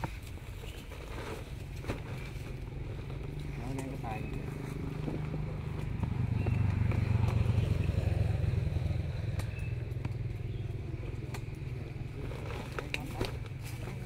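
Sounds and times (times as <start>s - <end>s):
small engine humming: 2.2s - 14.0s.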